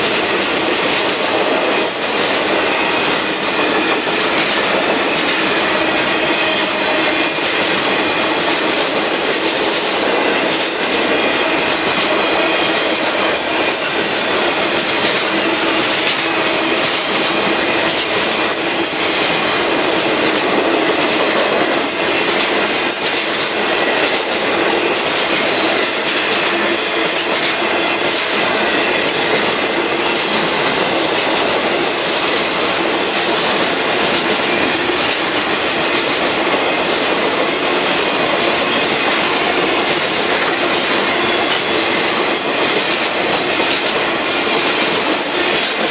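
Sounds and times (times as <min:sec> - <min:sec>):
train wheels rolling on rails: 0:00.0 - 0:45.9.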